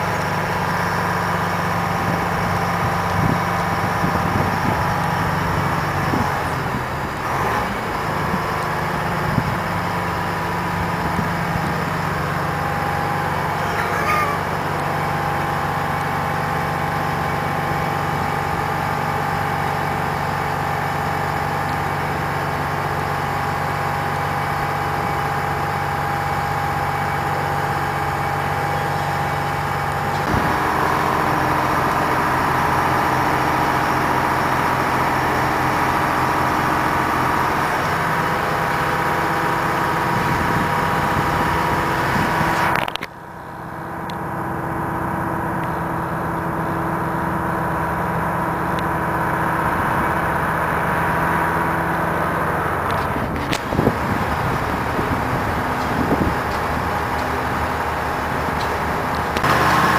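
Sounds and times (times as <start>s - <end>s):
crane engine running: 0.0s - 59.9s.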